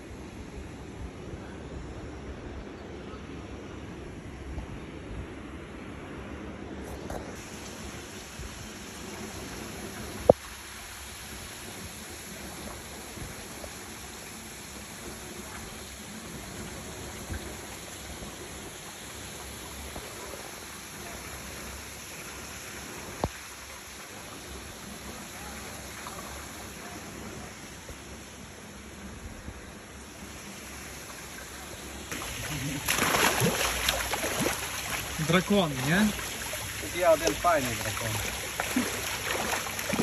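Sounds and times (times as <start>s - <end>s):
running water: 7.1s - 40.0s.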